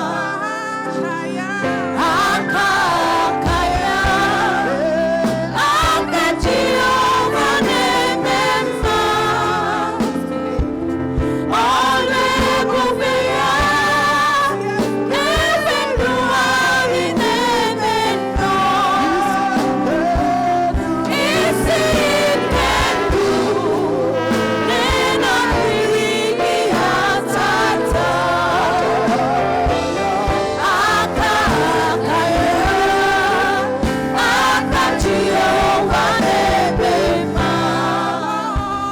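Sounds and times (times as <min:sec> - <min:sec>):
choir singing gospel music: 0:00.0 - 0:38.9
instrumental backing with steady beat: 0:00.0 - 0:38.9.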